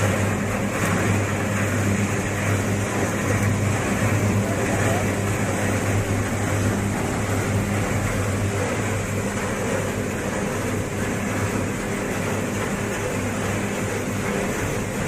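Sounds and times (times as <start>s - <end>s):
coffee roasting machine humming: 0.0s - 15.0s.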